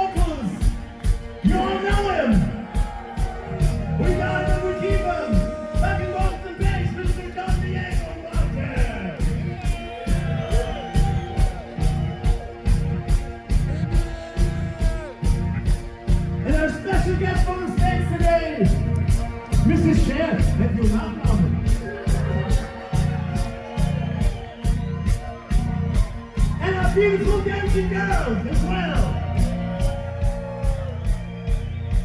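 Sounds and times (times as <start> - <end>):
fast steady drum beat: 0.0 - 32.0
live rock band playing: 0.0 - 32.0.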